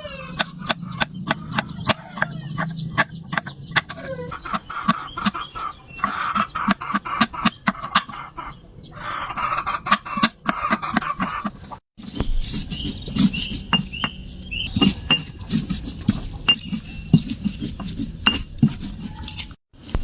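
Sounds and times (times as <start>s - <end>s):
chickens clucking: 0.0s - 11.8s, 12.6s - 19.4s.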